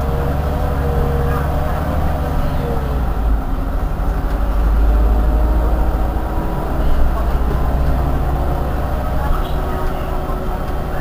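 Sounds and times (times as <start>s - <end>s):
bus diesel engine idling: 0.0s - 11.0s.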